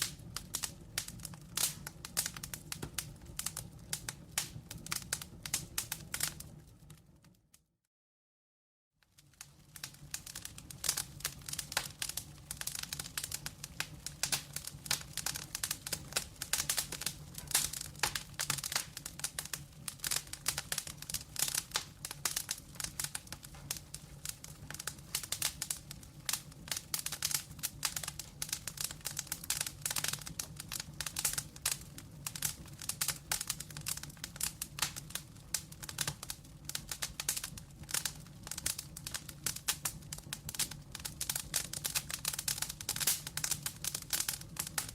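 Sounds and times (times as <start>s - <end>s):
burning logs crackling: 0.0s - 7.3s, 9.1s - 44.9s.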